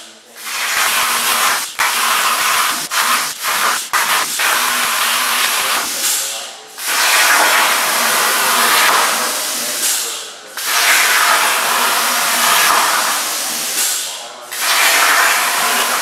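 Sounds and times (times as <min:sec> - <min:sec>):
plasma torch hissing: 0:00.2 - 0:16.0.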